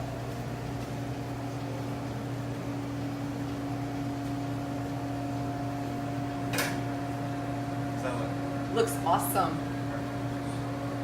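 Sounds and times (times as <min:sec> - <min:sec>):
kitchen equipment humming: 0:00.0 - 0:11.0.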